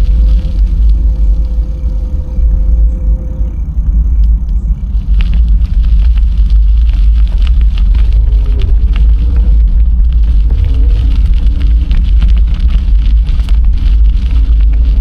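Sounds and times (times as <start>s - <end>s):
crackle of small clicks: 0.0s - 15.0s
wind buffeting microphone: 0.0s - 15.0s.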